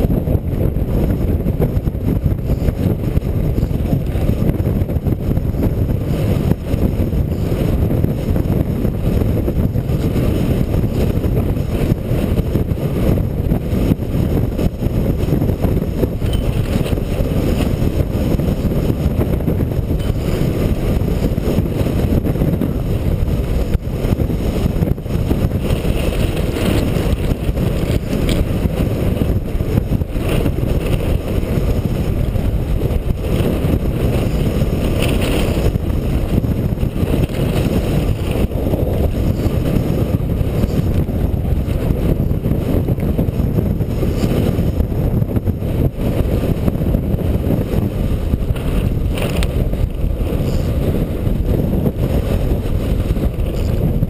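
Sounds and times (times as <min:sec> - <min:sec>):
small wheels rolling on dirt: 0:00.0 - 0:54.0
wind buffeting microphone: 0:00.0 - 0:54.0.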